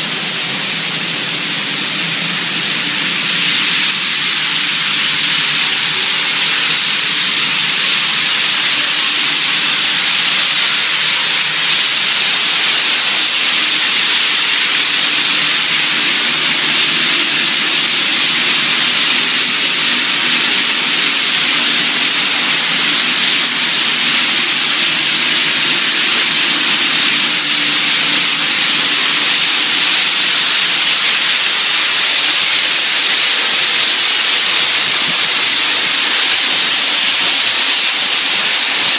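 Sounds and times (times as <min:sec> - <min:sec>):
loud hiss of air: 0:00.0 - 0:38.9.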